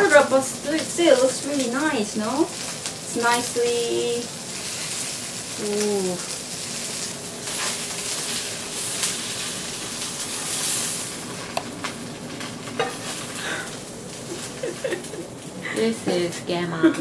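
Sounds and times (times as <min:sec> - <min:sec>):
pancake sizzling in oil: 0:00.0 - 0:16.6.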